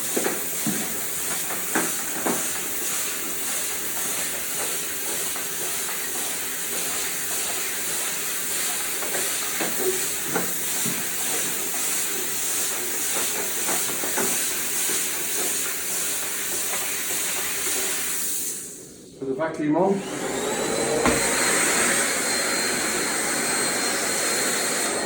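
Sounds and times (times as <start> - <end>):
steam cleaner hissing: 0.0 - 19.1, 19.9 - 25.0.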